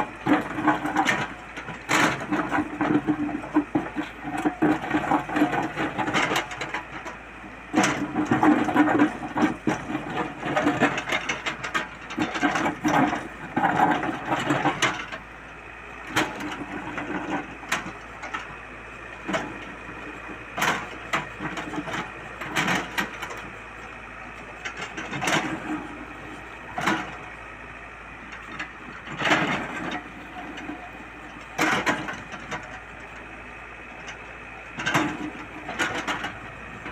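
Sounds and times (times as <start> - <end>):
excavator clanks and knocks: 0.0 - 36.9
excavator engine running: 0.0 - 36.9.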